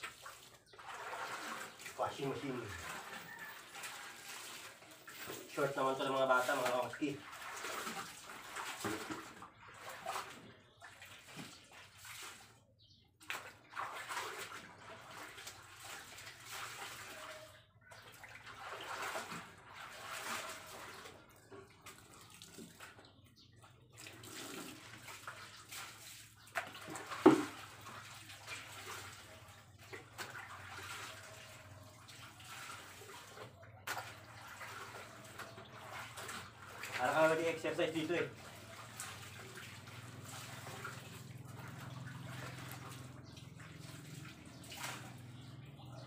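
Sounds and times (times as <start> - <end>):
laundry swishing and splashing: 0.0 - 23.1, 23.9 - 45.8.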